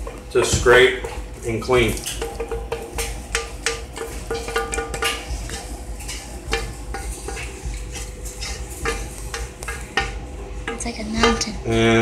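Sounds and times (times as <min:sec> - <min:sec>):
spoon scraping a skillet: 0:00.0 - 0:12.0.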